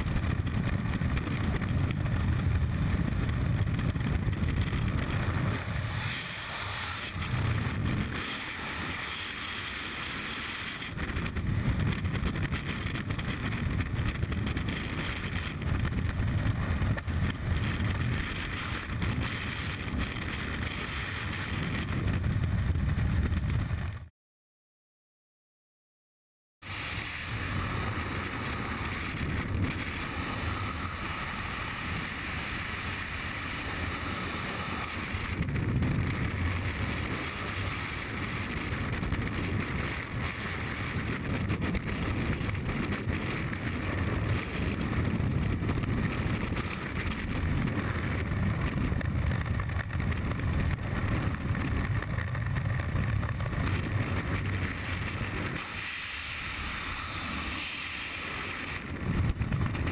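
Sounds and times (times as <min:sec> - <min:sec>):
wind buffeting microphone: 0:00.0 - 0:24.1, 0:26.6 - 0:59.9.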